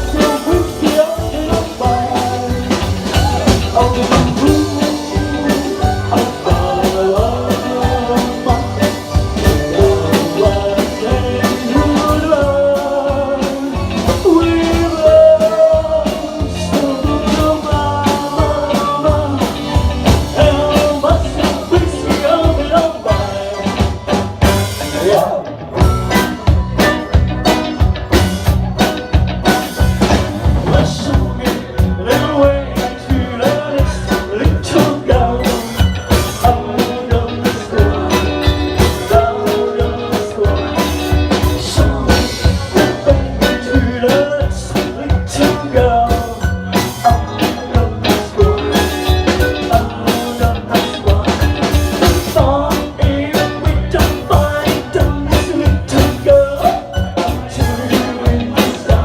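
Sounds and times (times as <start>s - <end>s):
drum kit beat: 0.0s - 59.0s
live rock band playing: 0.0s - 59.0s.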